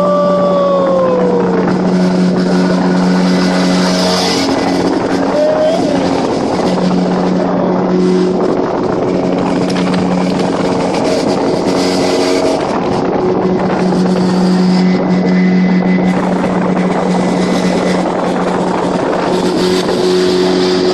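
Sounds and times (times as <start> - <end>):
outboard motor running: 0.0 - 20.9
wind noise on microphone: 0.0 - 20.9.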